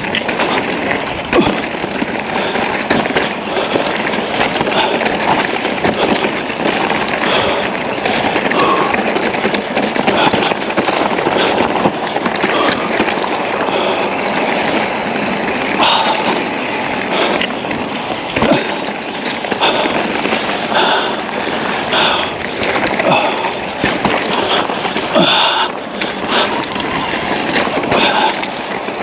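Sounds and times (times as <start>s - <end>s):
bike tyres rattling over rocks: 0.0s - 29.0s.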